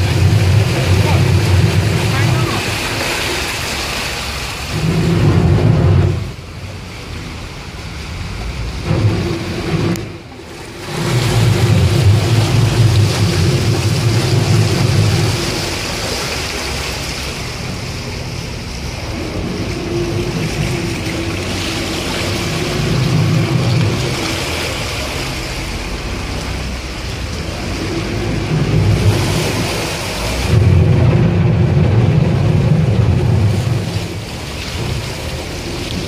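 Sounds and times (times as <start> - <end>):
low rumble: 0.0 - 3.1, 4.6 - 24.6, 25.6 - 36.0
motorboat engine hum: 0.0 - 36.0
water rushing along hull: 0.0 - 36.0.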